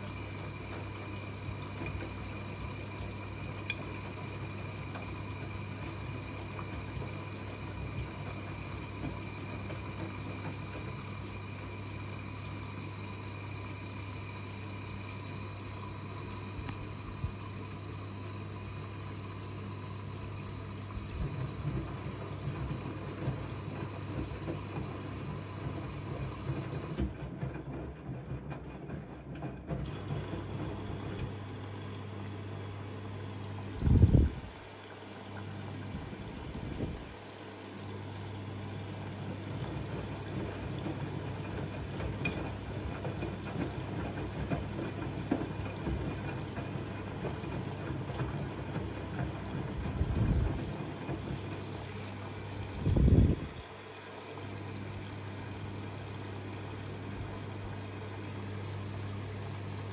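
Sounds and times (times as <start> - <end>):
washing machine motor humming: 0.0 - 59.9
water sloshing in washing machine: 0.0 - 59.9.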